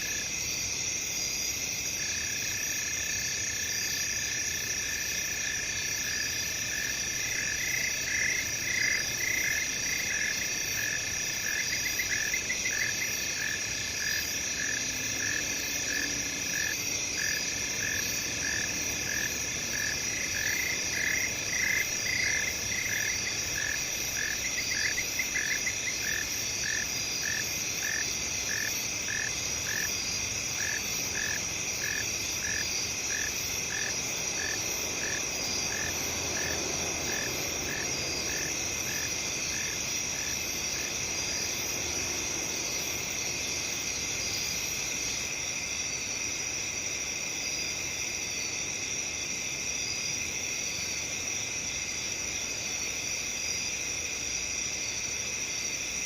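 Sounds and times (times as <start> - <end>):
crickets and insects chirring: 0.0 - 56.0
rapid insect trills: 0.0 - 56.0.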